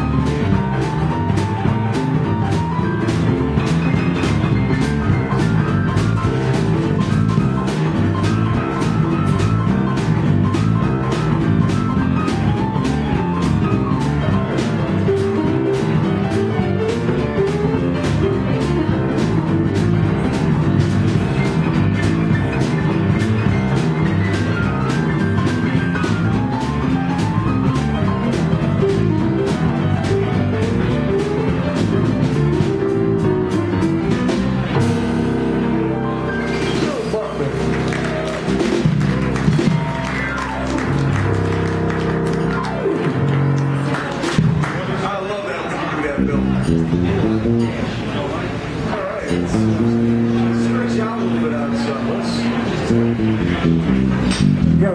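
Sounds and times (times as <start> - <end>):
blues band playing boogie-woogie: 0.0 - 54.9.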